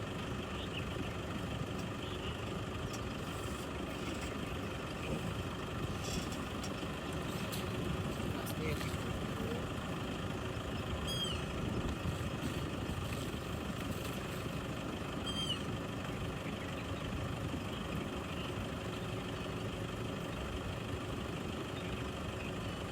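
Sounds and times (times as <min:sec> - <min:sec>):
vehicle engine idling: 0:00.0 - 0:22.9.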